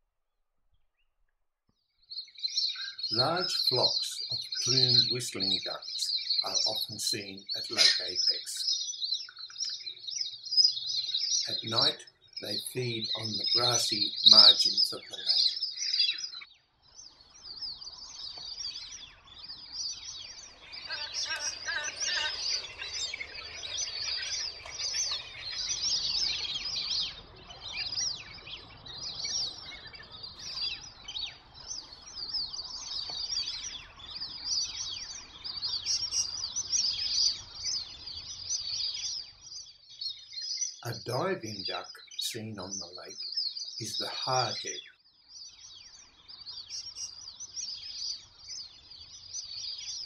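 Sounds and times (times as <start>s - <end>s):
ducks whistling calls: 2.4s - 16.4s, 17.5s - 39.3s, 40.2s - 44.9s, 45.9s - 48.6s.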